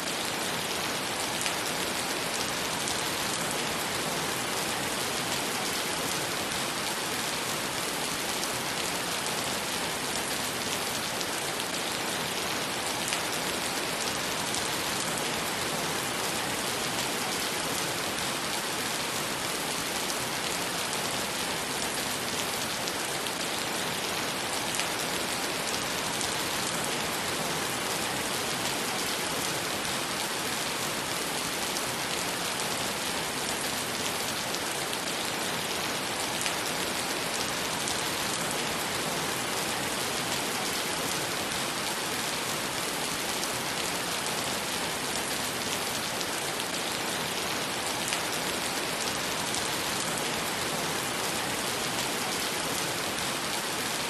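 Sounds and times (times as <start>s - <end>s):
heavy rain on wet pavement: 0.0s - 54.0s.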